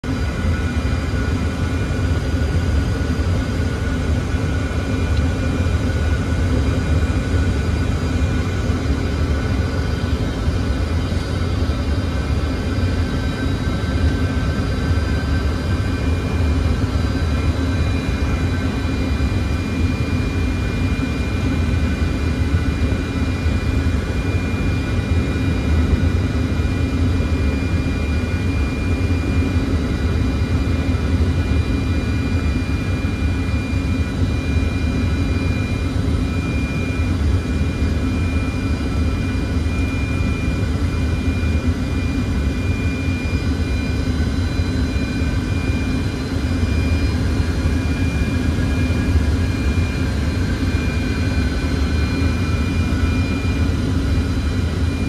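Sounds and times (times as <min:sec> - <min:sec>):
airliner cockpit rumble: 0:00.0 - 0:55.0
faint high whining tones: 0:00.1 - 0:55.0.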